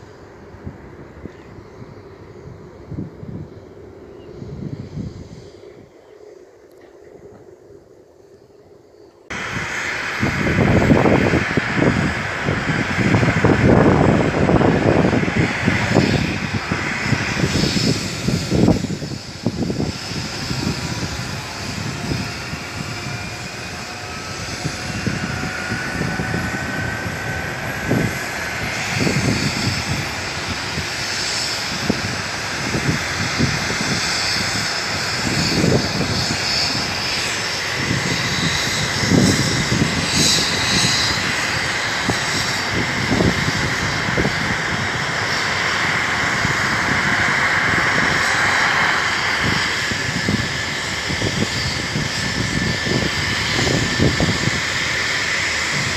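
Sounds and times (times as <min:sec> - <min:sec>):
helicopter turbine whine: 0:00.0 - 0:55.9.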